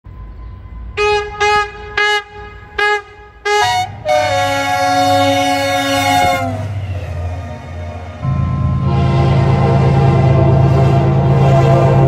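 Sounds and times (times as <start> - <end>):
low engine rumble: 0.1 - 12.0
locomotive horn toots and blast: 0.9 - 12.0.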